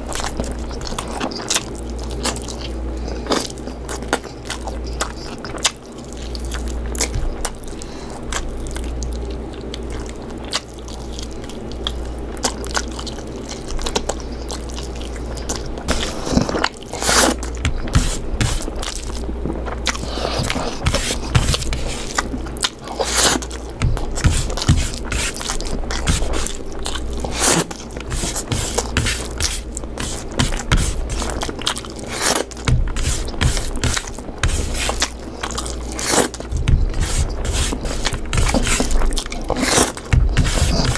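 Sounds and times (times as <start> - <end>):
person chewing: 0.0 - 40.9.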